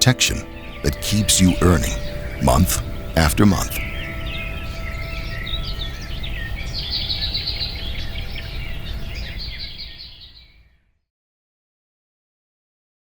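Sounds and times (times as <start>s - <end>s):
bird trill: 0.0s - 10.8s
songbirds chirping: 0.0s - 11.0s.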